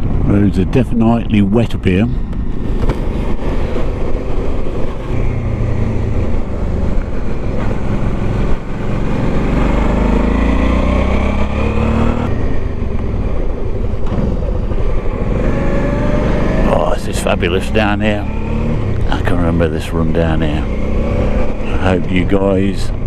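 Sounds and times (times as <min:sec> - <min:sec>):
motorcycle engine accelerating: 0:02.6 - 0:23.0.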